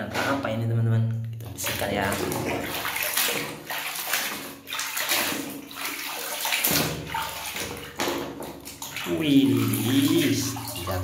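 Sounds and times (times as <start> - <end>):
water sloshing in a tub: 1.3 - 11.0.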